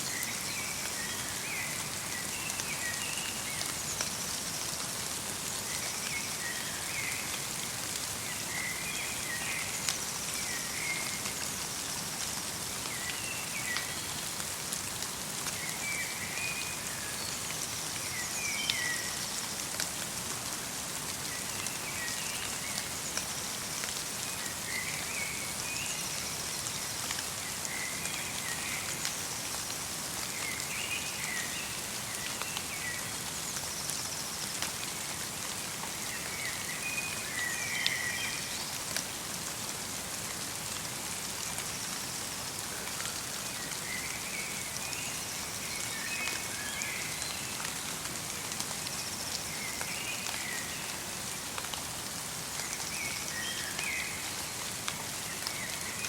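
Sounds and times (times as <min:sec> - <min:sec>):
light rain and snow patter: 0:00.0 - 0:56.0.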